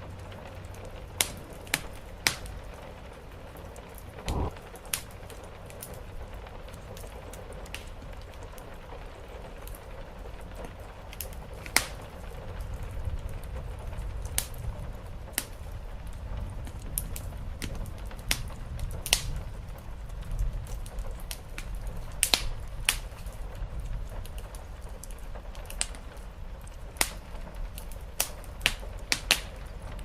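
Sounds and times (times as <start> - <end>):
rain on a roof: 0.0 - 30.0
wood fire crackling and popping: 0.0 - 30.0.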